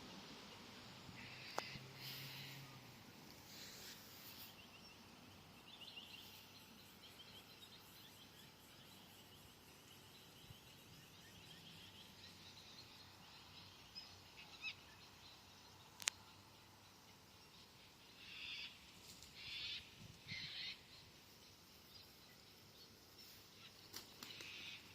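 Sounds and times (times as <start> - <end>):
distant small bird chirping: 0.0 - 21.2.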